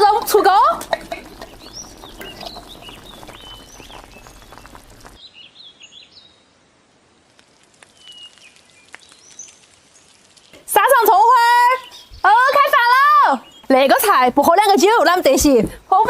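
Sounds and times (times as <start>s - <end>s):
small birds chirping: 0.0s - 6.5s, 7.7s - 15.5s.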